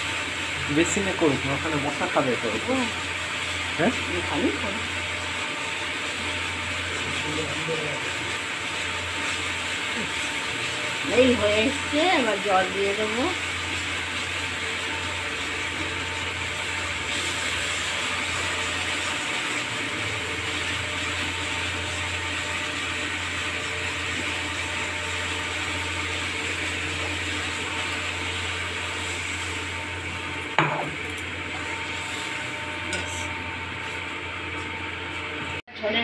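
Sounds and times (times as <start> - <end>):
curry sizzling in a pan: 0.0 - 35.6
spatula stirring and scraping: 1.9 - 35.5.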